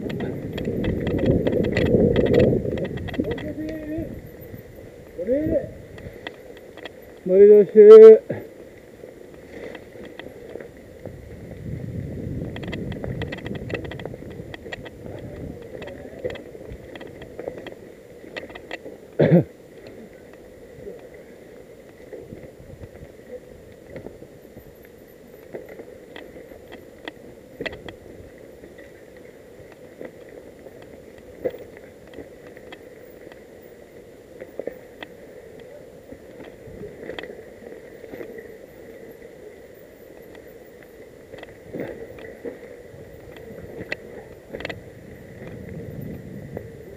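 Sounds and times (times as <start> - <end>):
bike rolling over dry leaves: 0.0 - 7.8, 8.4 - 46.9
bike rattling and clicking: 0.0 - 46.9.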